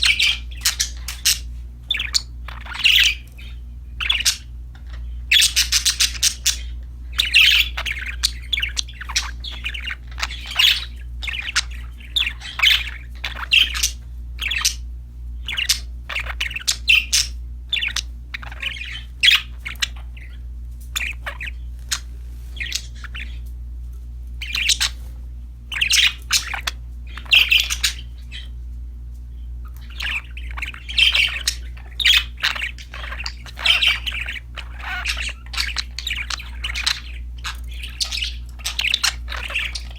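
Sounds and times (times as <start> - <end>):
budgerigars chirping: 0.0 - 23.5, 24.4 - 28.6, 29.3 - 39.9
steady low hum: 0.0 - 39.9.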